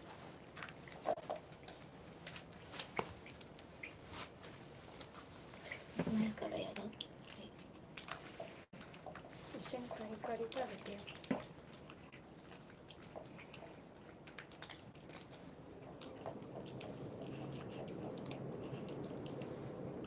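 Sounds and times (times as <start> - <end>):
cats crunching dry kibble: 0.0 - 6.0, 6.7 - 20.0
low background hum: 0.0 - 20.0.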